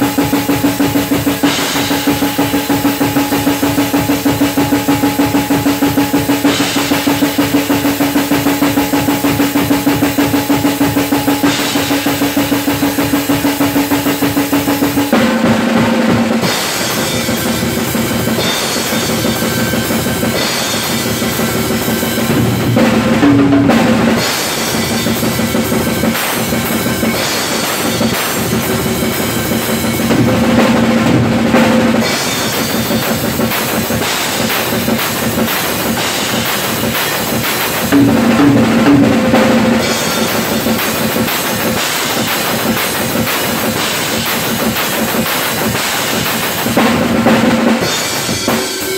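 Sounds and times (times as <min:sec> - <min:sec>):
drum kit played fast: 0:00.0 - 0:48.9.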